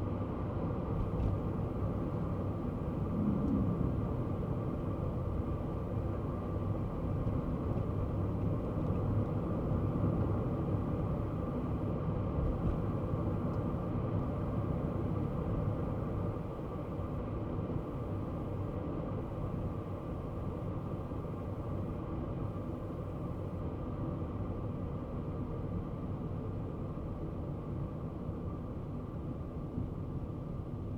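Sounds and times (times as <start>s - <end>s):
small car engine rumble: 0.0s - 30.9s.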